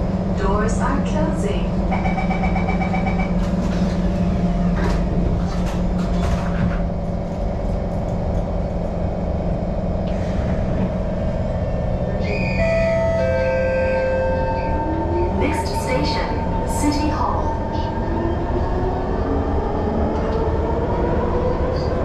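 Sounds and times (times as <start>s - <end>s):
train running low hum: 0.0s - 22.0s.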